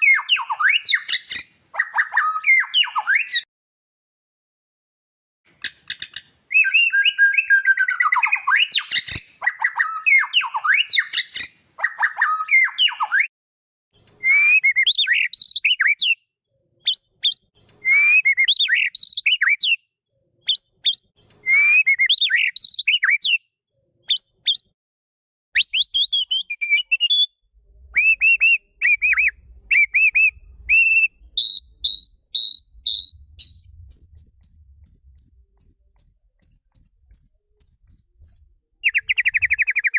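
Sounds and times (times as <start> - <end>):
bird singing whistled phrases: 0.0 - 3.5, 6.1 - 13.3, 14.2 - 16.2, 16.8 - 19.8, 20.5 - 24.8, 25.6 - 39.9.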